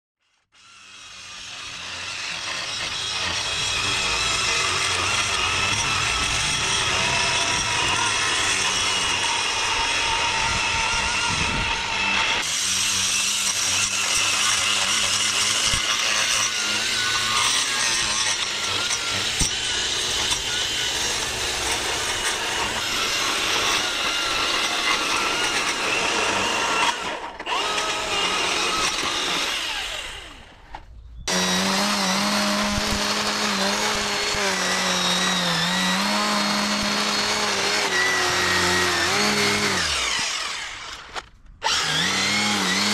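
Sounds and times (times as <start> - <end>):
string trimmer cutting grass: 0.3 - 42.9.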